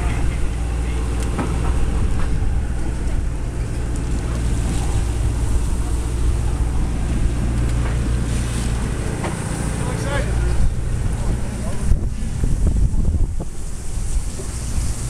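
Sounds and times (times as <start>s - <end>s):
boat engine drone: 0.0s - 15.0s
wind buffeting microphone: 0.0s - 15.0s.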